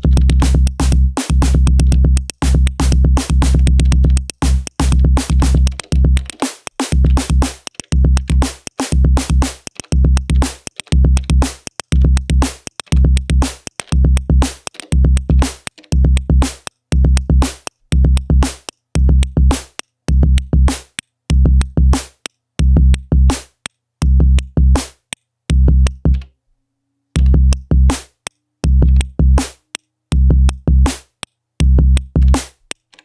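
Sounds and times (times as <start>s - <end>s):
electronic drum pattern: 0.0s - 26.2s, 27.2s - 32.7s.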